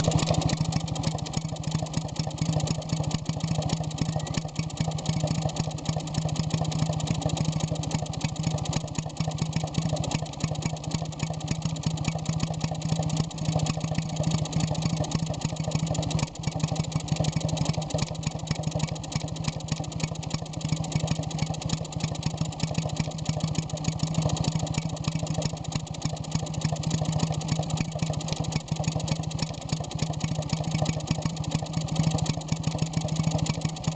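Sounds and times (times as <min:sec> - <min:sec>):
two-stroke stationary engine running: 0:00.0 - 0:33.9.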